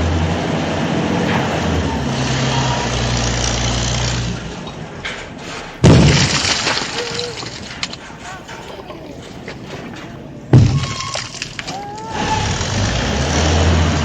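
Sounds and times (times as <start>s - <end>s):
vehicle engine running: 0.0s - 10.9s, 12.4s - 14.0s.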